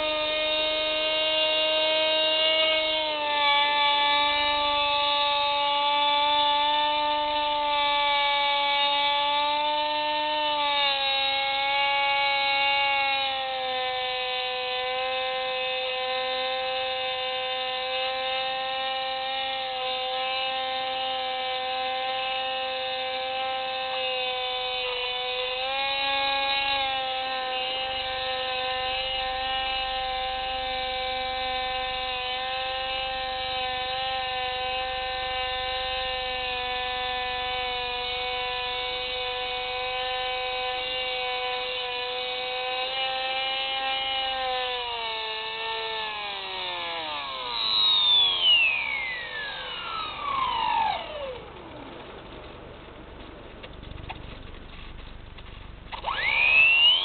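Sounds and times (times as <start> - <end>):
electric motor and propeller whine: 0.0 - 57.0.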